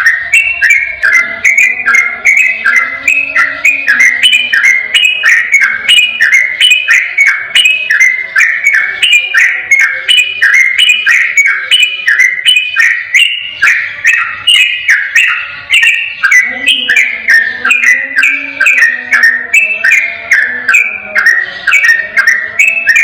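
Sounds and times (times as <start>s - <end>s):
bulbul singing whistled phrases: 0.0s - 23.0s.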